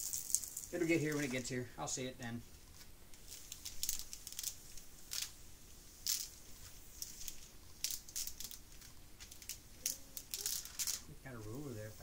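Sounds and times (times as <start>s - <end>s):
plastic film crinkling: 0.0s - 1.5s, 2.7s - 12.0s.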